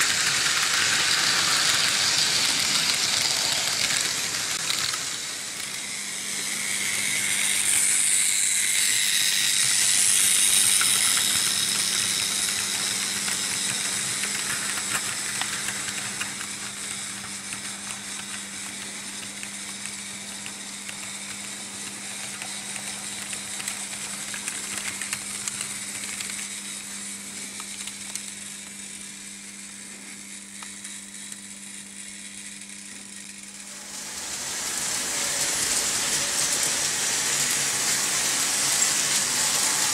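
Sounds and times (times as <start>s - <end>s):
model train wheels rattling: 0.0s - 26.8s, 33.6s - 39.9s.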